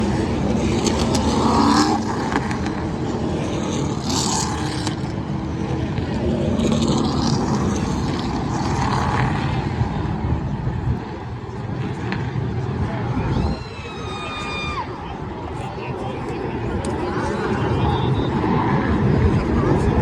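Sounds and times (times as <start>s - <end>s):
race truck engines passing: 0.0s - 20.0s.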